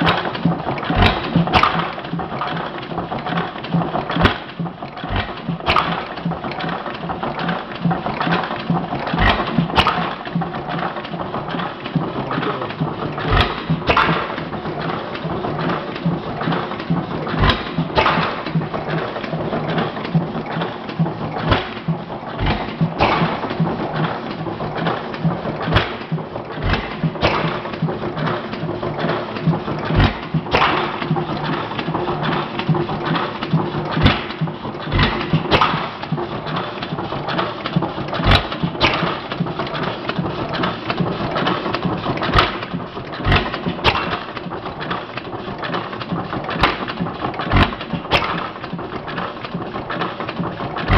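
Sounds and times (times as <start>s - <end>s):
engine firing bangs: 0.0s - 36.6s, 42.1s - 50.9s
engine valve gear clattering: 0.0s - 50.9s.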